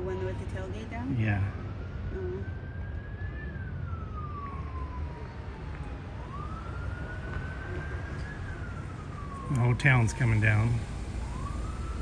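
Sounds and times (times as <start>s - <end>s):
police siren wailing: 1.0s - 12.0s.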